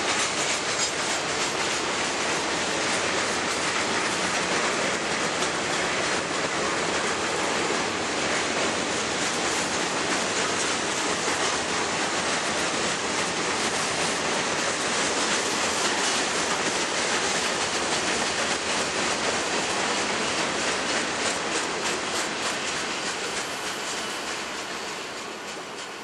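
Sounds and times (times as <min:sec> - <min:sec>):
rhythmic clacking over rail joints: 0:00.0 - 0:26.0
steel wheels rumbling on rail: 0:00.0 - 0:26.0.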